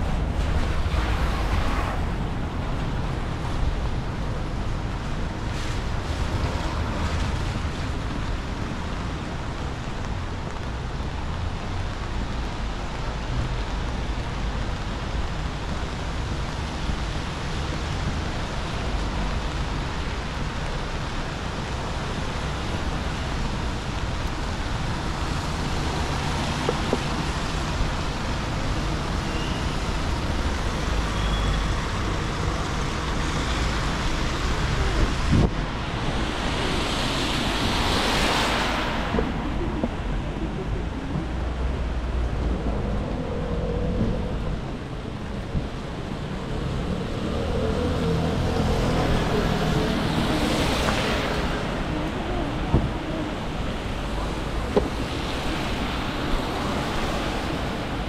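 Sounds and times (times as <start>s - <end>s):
traffic rumble on wet street: 0.0s - 58.0s.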